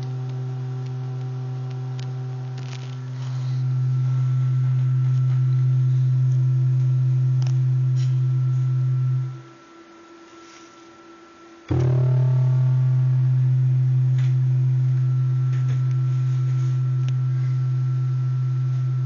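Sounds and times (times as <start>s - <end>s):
steady low pure tone: 0.0s - 9.6s, 11.6s - 19.0s.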